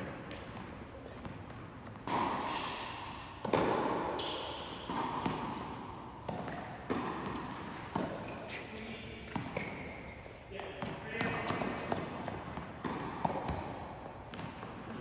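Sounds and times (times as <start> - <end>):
tennis ball hit and bouncing: 0.0 - 15.0.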